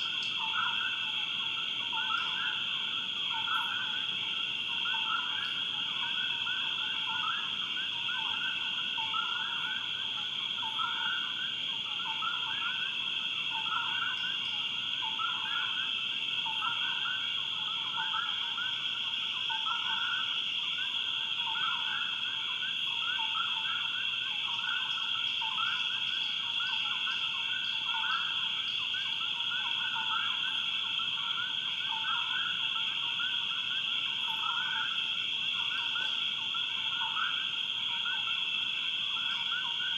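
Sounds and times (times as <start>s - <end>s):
lower chirping call: 0.0s - 39.9s.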